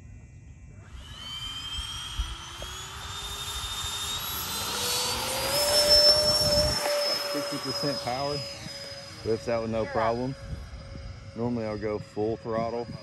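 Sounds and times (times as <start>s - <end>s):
electric ducted fans whining: 0.4s - 13.0s.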